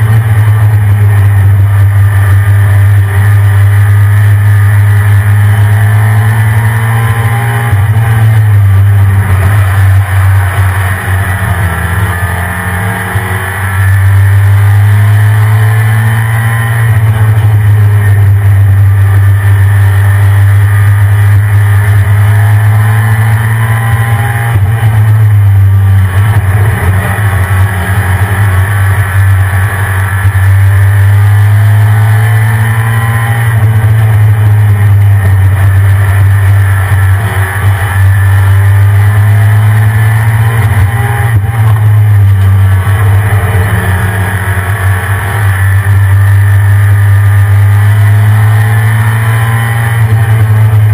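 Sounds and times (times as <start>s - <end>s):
truck engine pulling: 0.0s - 50.9s.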